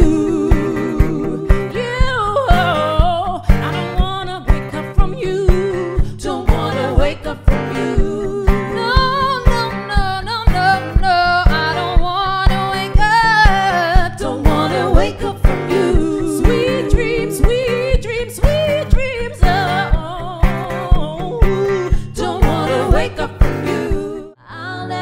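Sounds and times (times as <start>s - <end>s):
steady thumping beat: 0.0s - 24.3s
female vocal trio singing: 0.0s - 25.0s
guitar: 0.0s - 25.0s.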